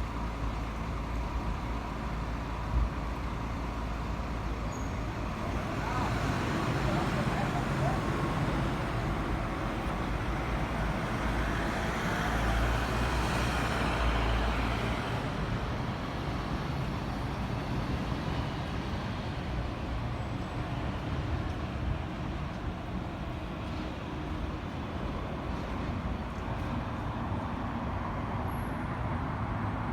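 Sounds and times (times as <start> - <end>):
city street traffic: 0.0 - 29.9.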